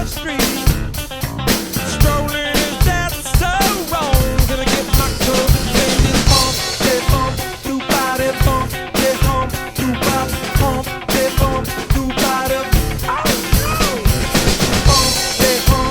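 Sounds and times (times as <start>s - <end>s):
drum kit beat: 0.0s - 15.9s
sliding lead melody: 0.6s - 15.9s.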